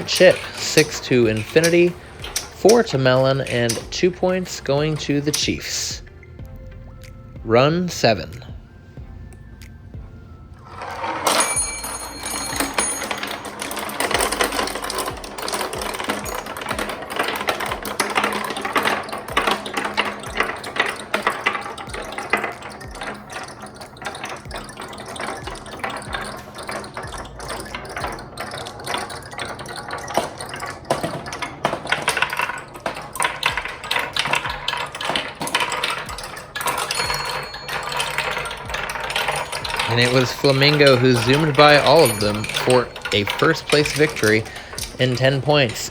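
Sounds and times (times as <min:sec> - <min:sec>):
marbles rattling down track: 0:00.0 - 0:08.8, 0:10.6 - 0:45.9.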